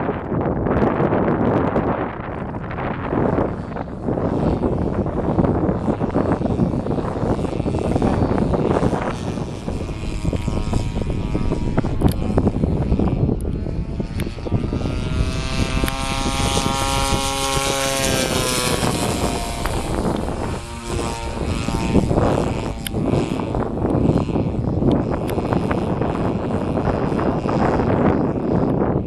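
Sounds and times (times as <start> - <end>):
gusty wind on microphone: 0.0 - 29.0
model plane engine buzzing: 0.0 - 29.0.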